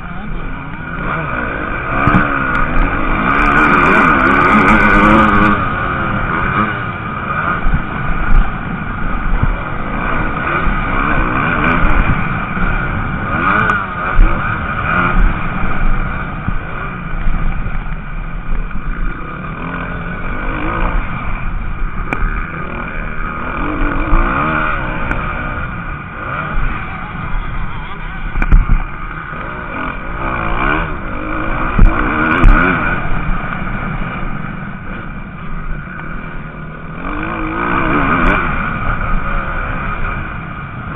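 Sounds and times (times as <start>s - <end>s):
motocross bikes revving: 0.0s - 40.9s.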